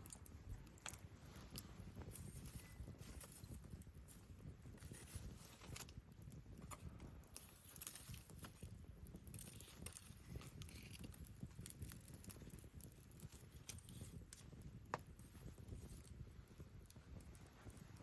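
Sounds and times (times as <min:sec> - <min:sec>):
campfire crackling: 0:00.0 - 0:18.0
fire pops: 0:00.0 - 0:18.0.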